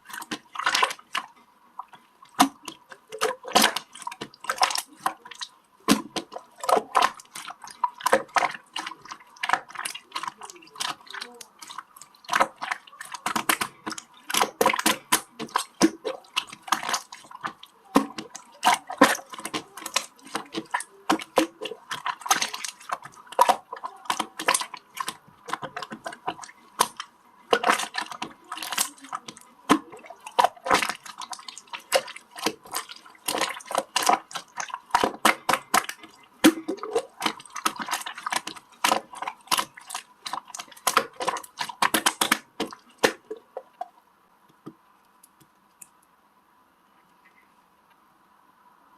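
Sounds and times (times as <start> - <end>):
slime being squished by hand: 0.0 - 43.8.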